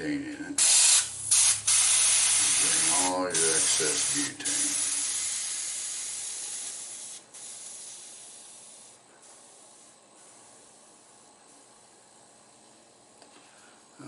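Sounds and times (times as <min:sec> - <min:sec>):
butane hissing from lighter valve: 0:00.6 - 0:12.5.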